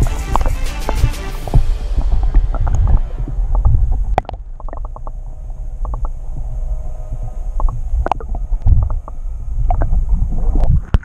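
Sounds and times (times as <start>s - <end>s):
muffled underwater rumble: 1.4s - 11.0s.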